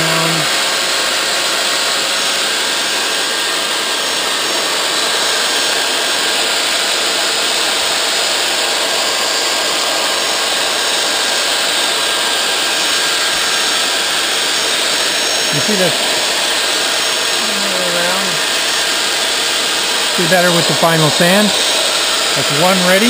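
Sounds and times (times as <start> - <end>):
electric belt sander running: 0.0 - 23.0.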